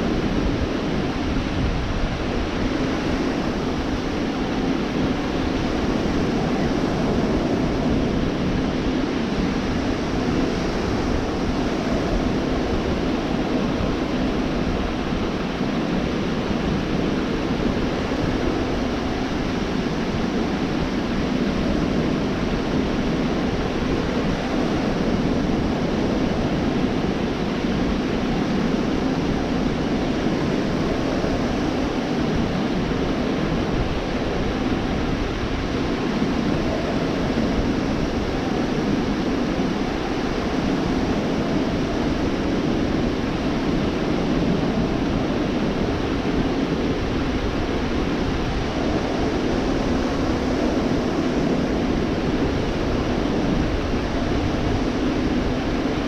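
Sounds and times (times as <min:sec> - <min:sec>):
surf washing onto beach: 0:00.0 - 0:56.0.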